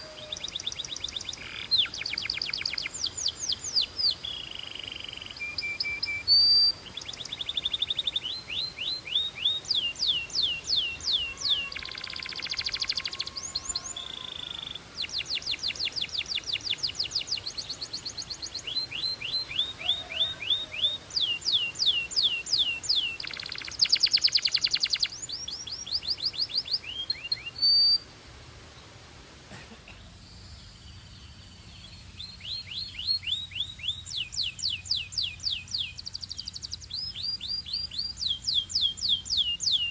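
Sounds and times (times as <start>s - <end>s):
canary singing: 0.0s - 28.0s, 31.8s - 39.9s.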